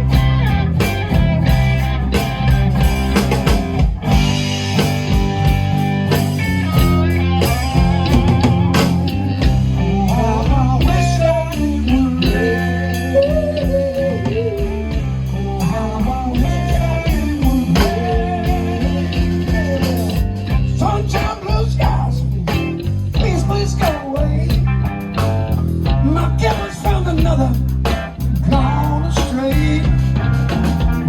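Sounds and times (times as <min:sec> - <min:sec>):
bass: 0:00.0 - 0:31.0
drum kit: 0:00.0 - 0:31.0
electric guitar bending notes: 0:00.0 - 0:31.0.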